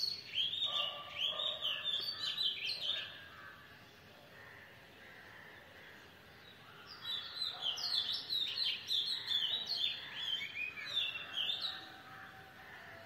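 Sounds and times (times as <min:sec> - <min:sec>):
bird chirping: 0:00.0 - 0:04.8, 0:05.5 - 0:12.6
faint outdoor background noise: 0:00.0 - 0:13.0.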